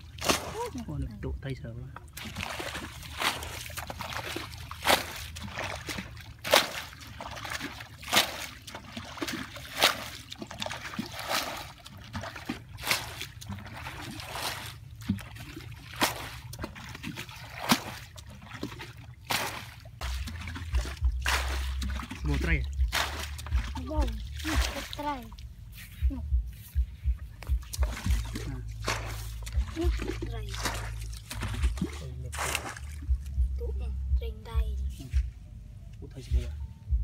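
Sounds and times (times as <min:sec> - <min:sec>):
sharp splash: 0:00.0 - 0:00.9, 0:02.1 - 0:25.5, 0:27.4 - 0:33.4
water splashing and trickling: 0:00.0 - 0:37.0.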